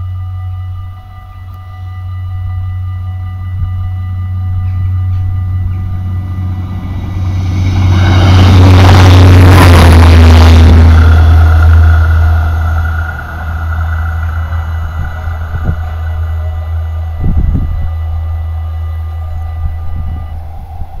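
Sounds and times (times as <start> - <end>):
crossing warning bell ringing: 0.0 - 21.0
diesel train passing: 0.0 - 21.0
low rumble: 0.0 - 21.0.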